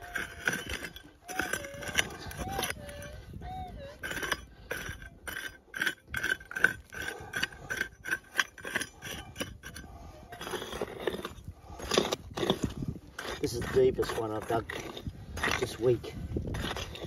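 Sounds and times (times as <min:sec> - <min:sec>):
pick striking stony ground: 0:00.0 - 0:03.1, 0:04.0 - 0:17.0
loose dirt scraping: 0:00.0 - 0:17.0.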